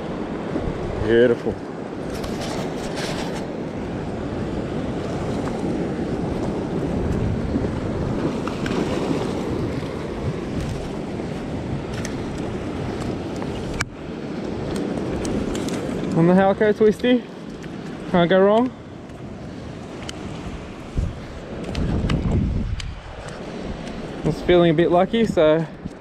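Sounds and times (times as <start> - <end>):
ocean swell washing against rocks: 0.0 - 26.0
wind buffeting microphone: 0.0 - 26.0.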